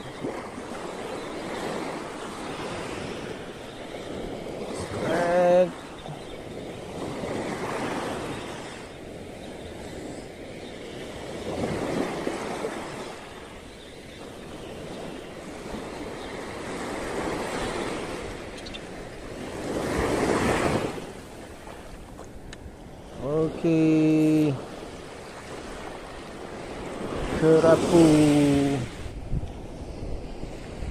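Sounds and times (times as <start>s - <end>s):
small waves washing on sand: 0.0s - 30.9s.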